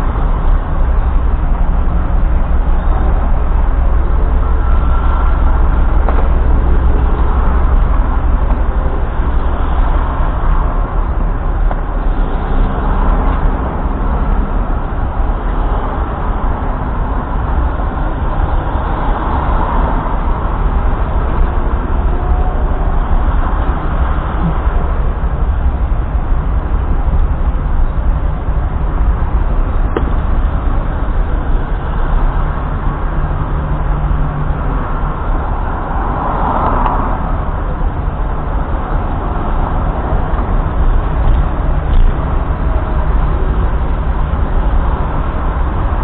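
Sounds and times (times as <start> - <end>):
road noise: 0.0 - 46.0
vehicle engine rumble: 0.0 - 46.0.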